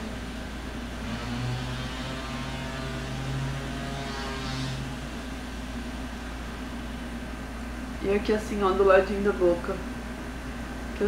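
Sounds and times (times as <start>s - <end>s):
low motor drone: 0.0s - 10.0s
constant low hum: 0.0s - 11.0s.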